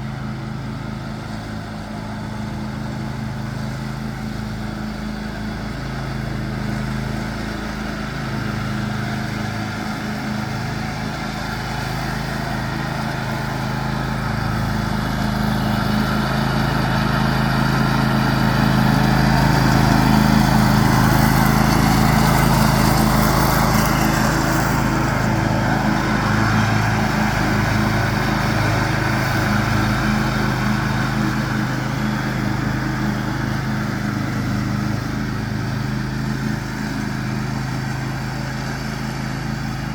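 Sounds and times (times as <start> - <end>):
riding lawn mower running: 0.0 - 39.9.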